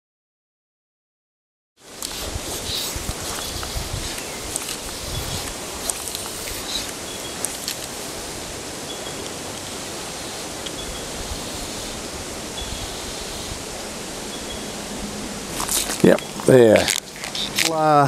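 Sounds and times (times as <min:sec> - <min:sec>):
stream water rushing: 0:01.8 - 0:18.0.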